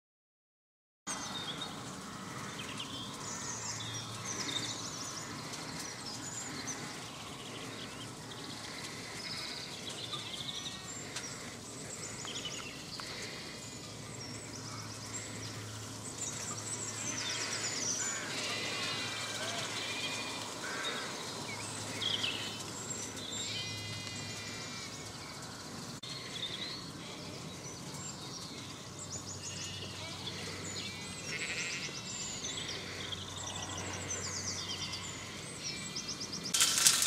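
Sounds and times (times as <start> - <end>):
outdoor background noise: 1.1 - 37.0
small birds chirping: 1.1 - 37.0.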